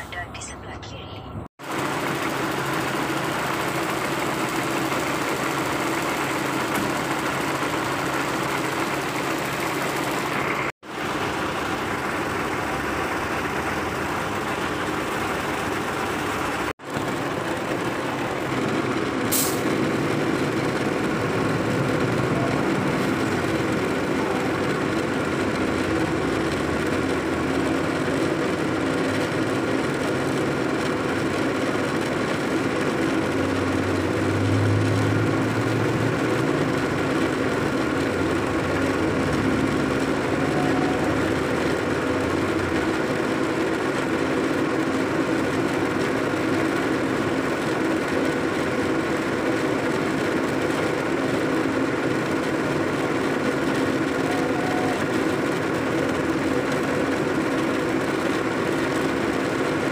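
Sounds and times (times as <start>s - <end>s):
heavy truck engine running: 0.0s - 59.9s.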